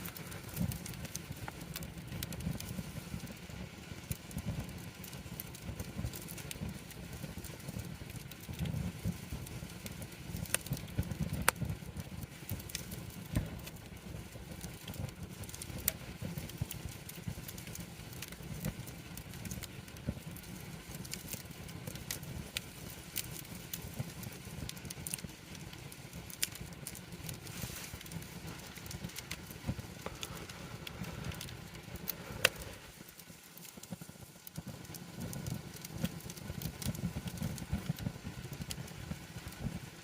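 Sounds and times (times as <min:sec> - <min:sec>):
wood campfire crackling: 0:00.0 - 0:40.0.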